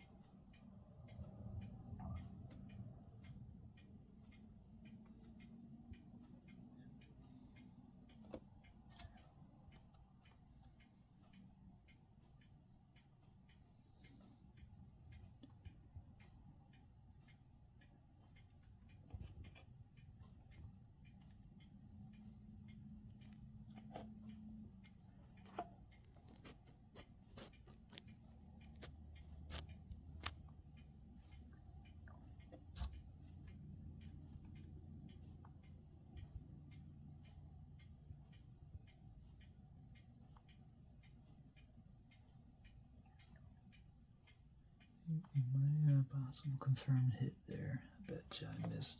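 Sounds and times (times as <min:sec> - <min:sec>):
faint steady ticking: 0:00.0 - 0:48.9.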